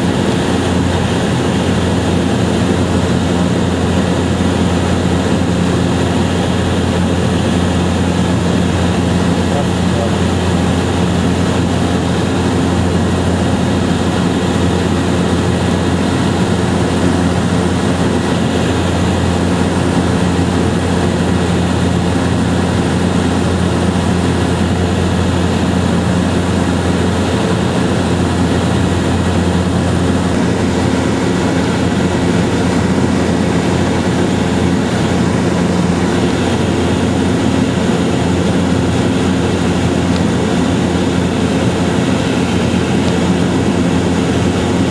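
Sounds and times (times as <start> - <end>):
steady engine drone: 0.0 - 44.9.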